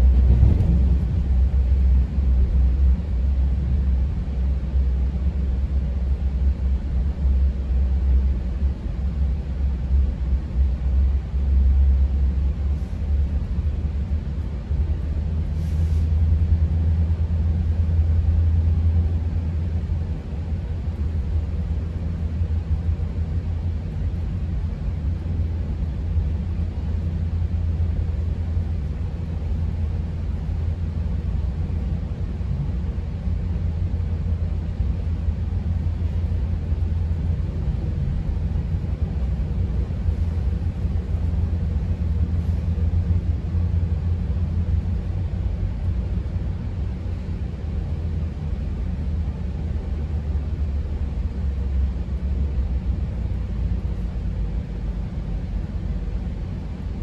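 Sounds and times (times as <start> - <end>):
train coach rumbling on track: 0.0 - 57.0.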